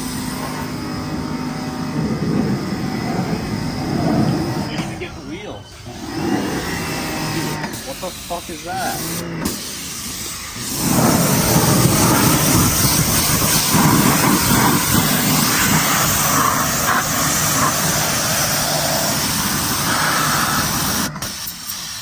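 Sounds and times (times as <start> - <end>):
engine running at speed: 0.0 - 21.3.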